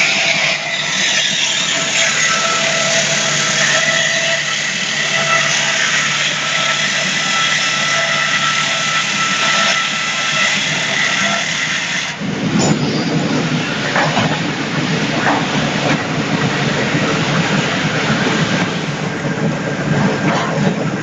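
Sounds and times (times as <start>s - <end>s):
circular saw machine running: 0.0s - 19.9s.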